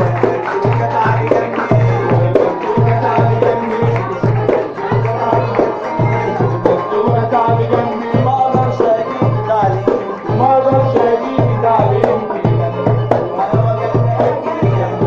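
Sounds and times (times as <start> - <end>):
hand drum beat: 0.0 - 15.0.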